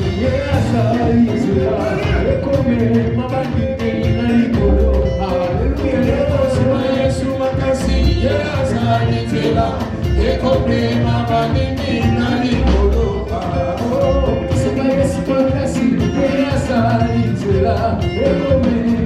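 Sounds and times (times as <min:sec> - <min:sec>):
drum beat: 0:00.0 - 0:19.0
live band playing upbeat song: 0:00.0 - 0:19.0
people singing: 0:00.0 - 0:19.0.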